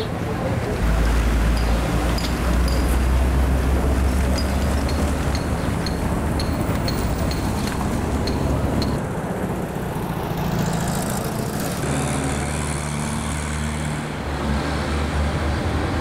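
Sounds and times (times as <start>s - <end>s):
vehicle engine hum with road noise: 0.0s - 16.0s.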